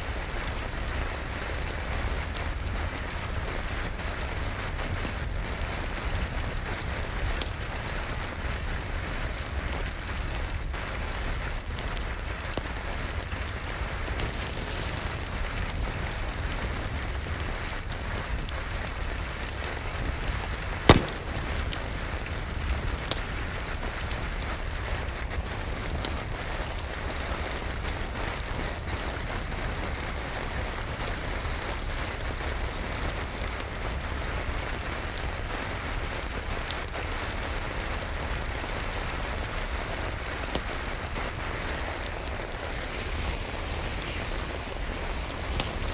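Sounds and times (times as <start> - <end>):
steady rain: 0.0 - 45.9
wood fire crackling and popping: 0.2 - 29.5, 31.4 - 45.9.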